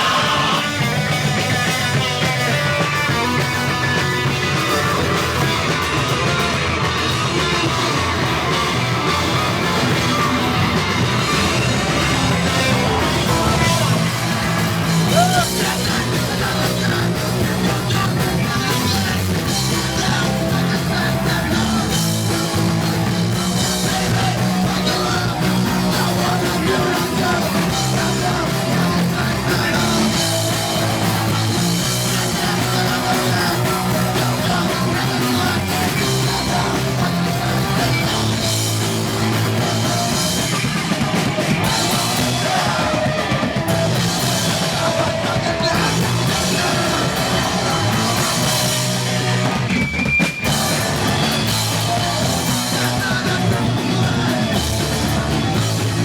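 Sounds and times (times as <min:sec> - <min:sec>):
distorted guitars: 0:00.0 - 0:56.0
drums: 0:00.0 - 0:56.0
yelled vocals: 0:00.0 - 0:56.0.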